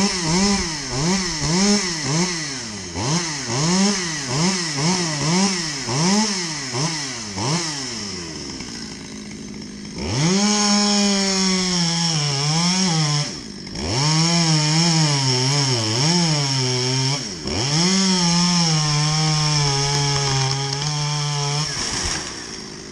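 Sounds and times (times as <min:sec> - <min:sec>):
chainsaw revving and cutting: 0:00.0 - 0:22.9.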